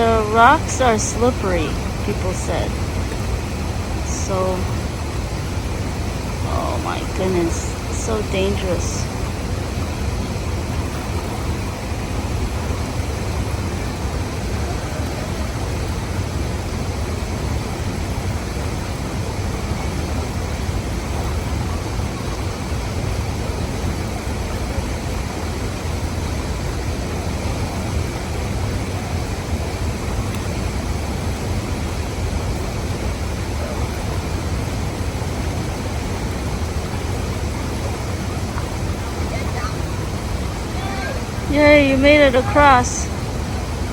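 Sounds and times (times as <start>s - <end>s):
river water rushing: 0.0s - 43.9s
waterfall: 0.0s - 43.9s.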